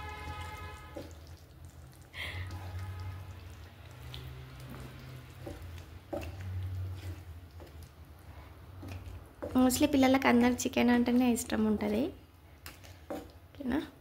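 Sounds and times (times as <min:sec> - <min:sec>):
faint watery sounds: 0:00.0 - 0:13.6.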